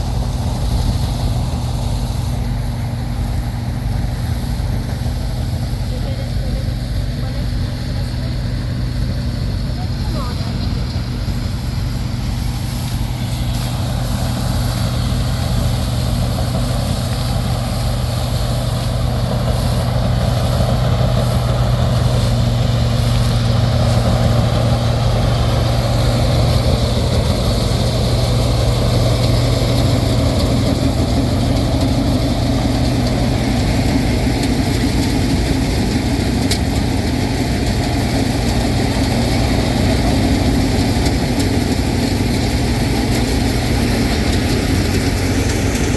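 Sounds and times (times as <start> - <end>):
harvester engine humming: 0.0 - 45.9
machinery noise: 0.0 - 45.9.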